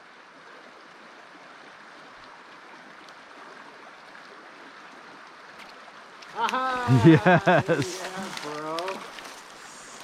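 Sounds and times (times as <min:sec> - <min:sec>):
mountain stream flowing: 0:00.0 - 0:10.0.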